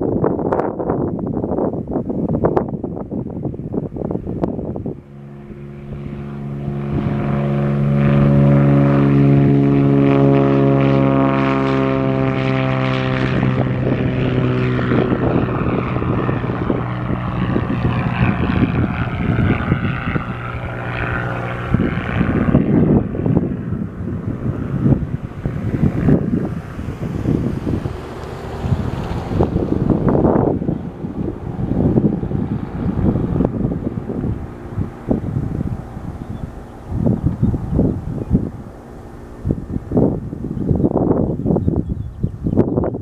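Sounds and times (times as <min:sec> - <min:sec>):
airplane engine and propeller drone: 0:00.0 - 0:43.0
wind buffeting microphone: 0:00.0 - 0:43.0.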